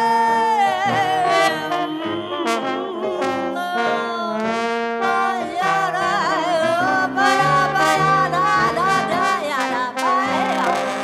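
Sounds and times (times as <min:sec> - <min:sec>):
piano accompaniment: 0:00.8 - 0:11.0
trombone solo with vibrato: 0:00.8 - 0:11.0.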